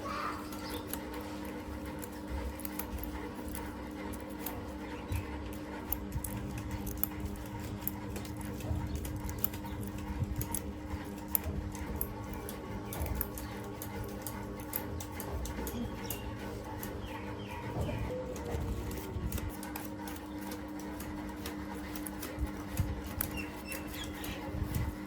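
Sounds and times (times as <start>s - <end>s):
steady low hum: 0.0s - 25.0s
small irregular clicks and taps: 0.5s - 24.9s.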